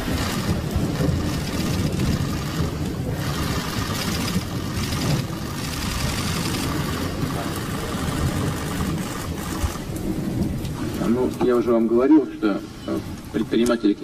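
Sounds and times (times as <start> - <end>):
low rumble: 0.0 - 13.4.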